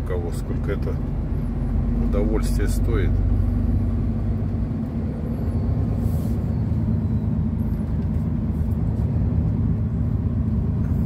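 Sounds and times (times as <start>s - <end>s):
road noise: 0.0s - 11.0s
truck diesel engine drone: 0.0s - 11.0s.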